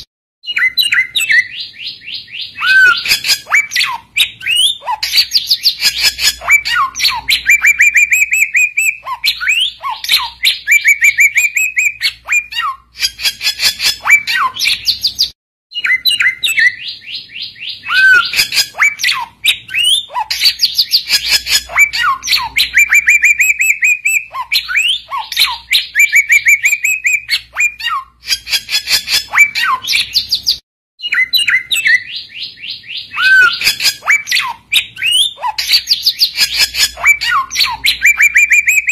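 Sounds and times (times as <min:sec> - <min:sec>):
bird singing chattering whistles: 0:00.5 - 0:38.9.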